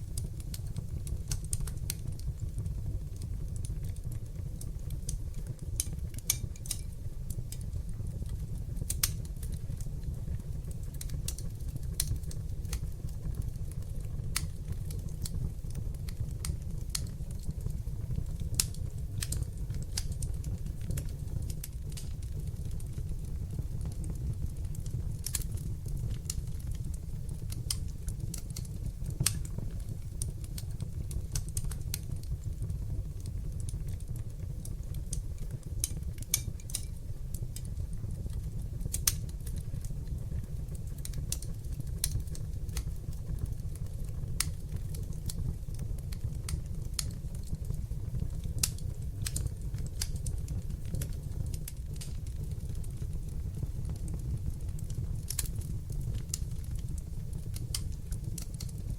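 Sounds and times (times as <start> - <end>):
fire crackling and popping: 0.0 - 58.9
fire rumbling: 0.0 - 58.9.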